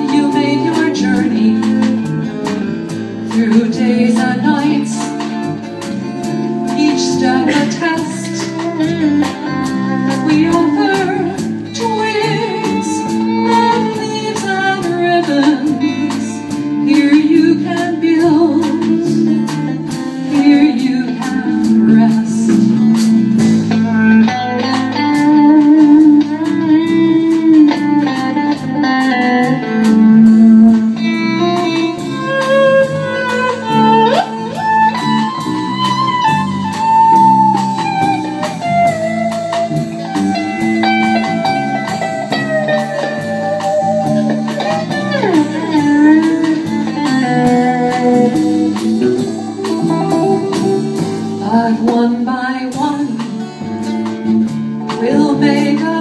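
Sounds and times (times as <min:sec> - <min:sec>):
acoustic guitar: 0:00.0 - 0:56.0
bass: 0:00.0 - 0:56.0
drums: 0:00.0 - 0:56.0
electric guitar melody: 0:00.0 - 0:56.0.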